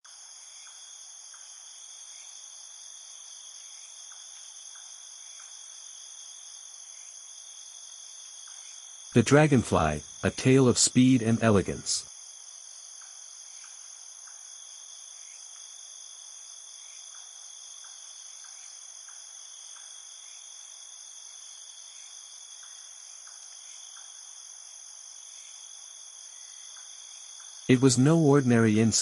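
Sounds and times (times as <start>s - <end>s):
high-pitched insect chorus: 0.1s - 29.0s.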